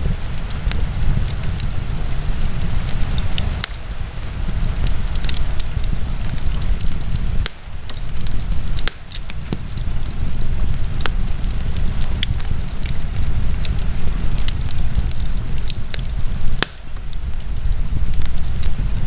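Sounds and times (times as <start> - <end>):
fire crackling and popping: 0.0 - 19.0
low fire rumble: 0.0 - 19.0.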